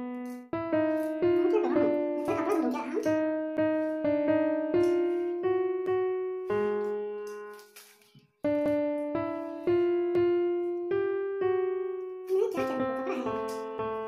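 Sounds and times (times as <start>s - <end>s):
piano single notes: 0.0s - 14.0s.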